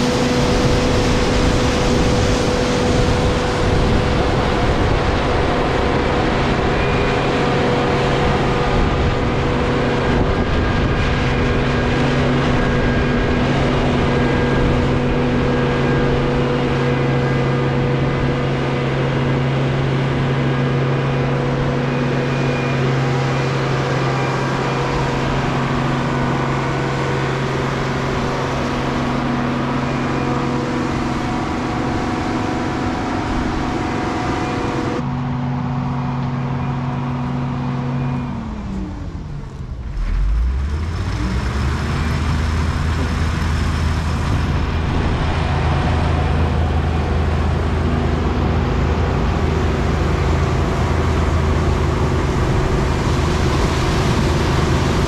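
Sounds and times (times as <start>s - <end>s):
loud machine hum: 0.0s - 55.0s.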